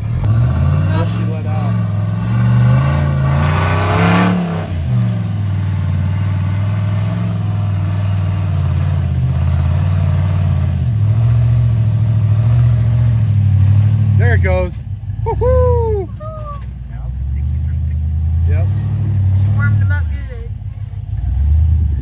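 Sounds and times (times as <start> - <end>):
engine revving under load: 0.0 - 22.0.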